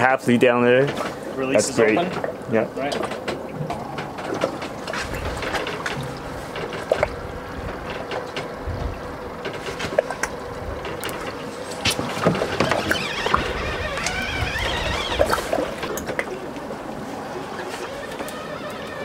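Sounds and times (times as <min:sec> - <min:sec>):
boat motor humming: 0:00.0 - 0:19.0
water noise: 0:00.0 - 0:19.0.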